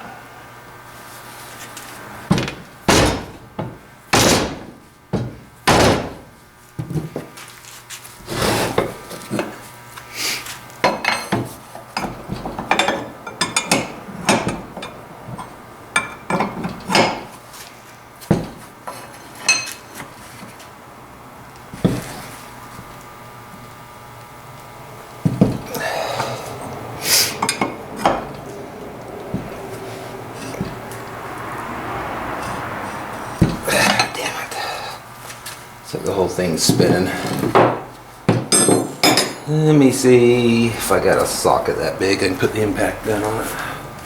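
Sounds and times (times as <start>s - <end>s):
hand tools knocking and scraping: 1.6s - 7.5s, 8.2s - 9.6s, 10.5s - 20.6s, 25.2s - 44.0s.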